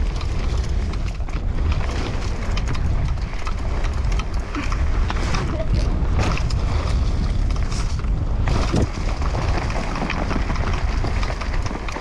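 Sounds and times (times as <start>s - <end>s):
bike rattling and clicking: 0.0s - 12.0s
tyres rolling over dirt: 0.0s - 12.0s
wind rushing over microphone: 0.0s - 12.0s.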